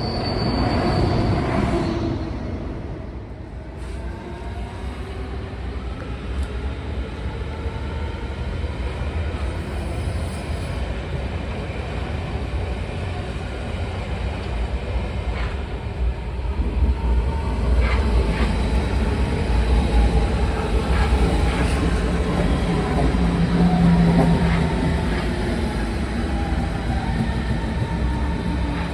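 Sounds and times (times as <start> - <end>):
train rumbling on rails: 0.0 - 28.9.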